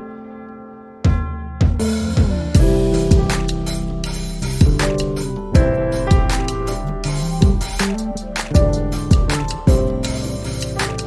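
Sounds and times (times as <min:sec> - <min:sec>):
instrumental chords: 0:00.0 - 0:11.0
drum beat: 0:01.1 - 0:11.0.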